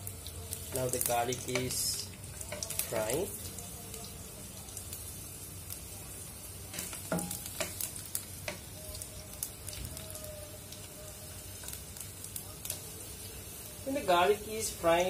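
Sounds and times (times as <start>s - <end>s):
garlic frying in oil: 0.0s - 15.0s.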